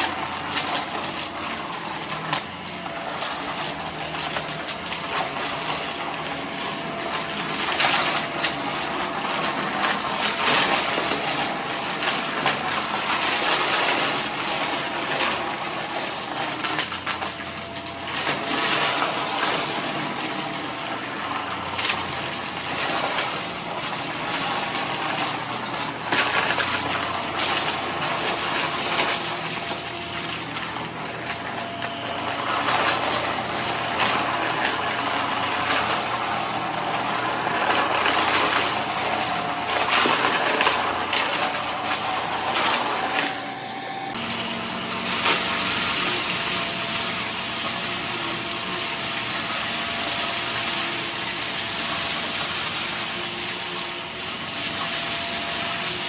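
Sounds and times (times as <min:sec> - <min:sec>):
debris rattling through vacuum: 0:00.0 - 0:56.0
vacuum cleaner running: 0:00.0 - 0:56.0.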